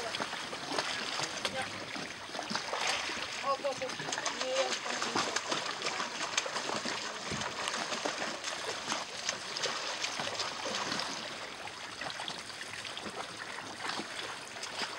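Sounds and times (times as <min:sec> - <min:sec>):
seawater sloshing and trickling: 0:00.0 - 0:14.9
small water splashes: 0:00.0 - 0:14.9.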